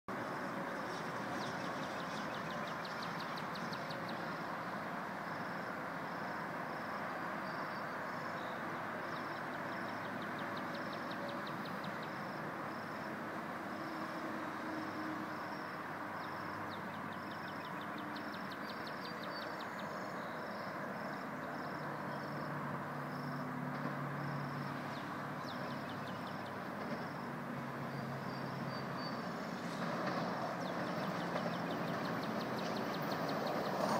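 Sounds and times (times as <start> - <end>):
approaching train drone: 0.1 - 33.9.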